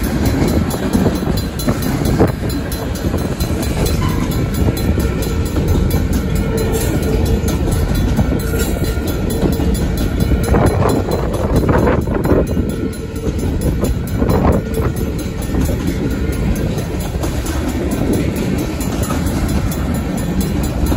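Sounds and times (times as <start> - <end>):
freight train wheels rumbling on rails: 0.0 - 20.9.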